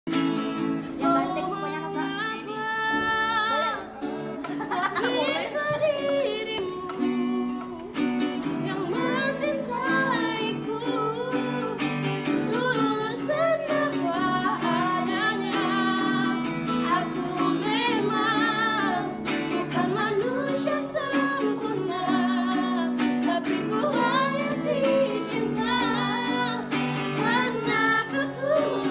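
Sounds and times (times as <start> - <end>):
woman singing slow song: 0.9 - 4.0, 4.6 - 28.9.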